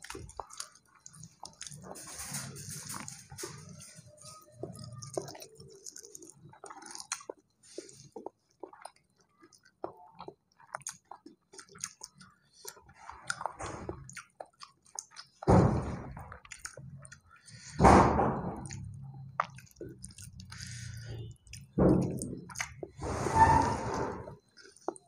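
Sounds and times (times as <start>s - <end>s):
mouth clicks and smacks: 0.0s - 1.9s, 4.6s - 23.0s
man chewing food: 0.0s - 23.1s, 23.9s - 25.0s.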